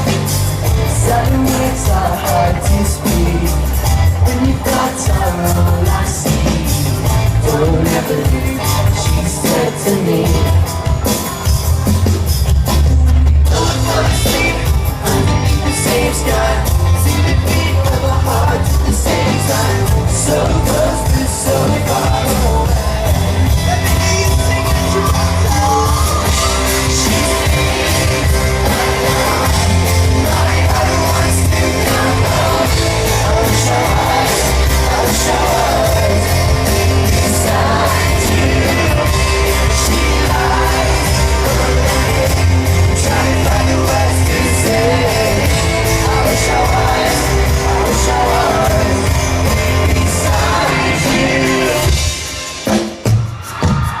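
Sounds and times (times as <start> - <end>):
lead singer singing: 0.0 - 11.5, 13.3 - 54.0
live pop-rock band playing: 0.0 - 54.0.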